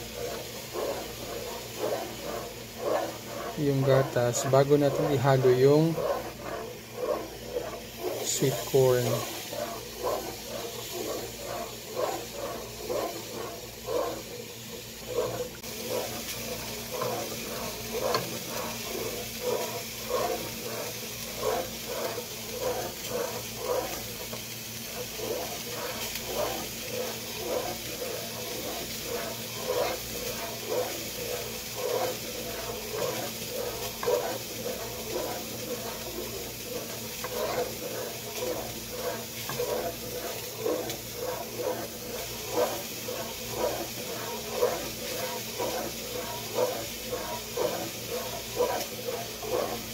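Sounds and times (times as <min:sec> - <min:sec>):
spoon stirring liquid in a pot: 0:00.0 - 0:49.9.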